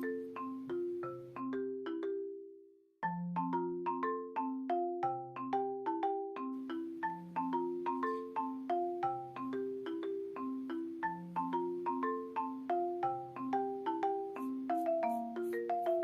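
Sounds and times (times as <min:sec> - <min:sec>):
marimba-like mallet melody: 0:00.0 - 0:16.0.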